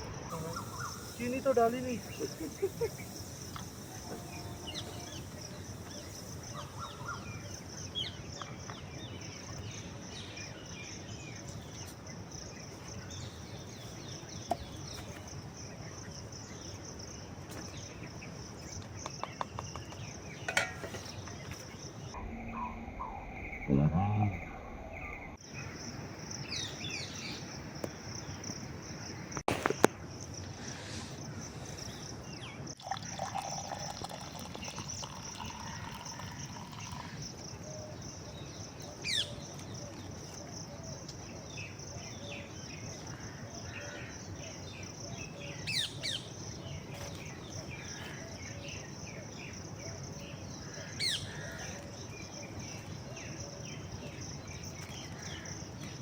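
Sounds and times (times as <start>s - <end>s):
birds chirping: 0.0s - 29.4s, 30.6s - 56.0s
insect drone: 0.0s - 56.0s.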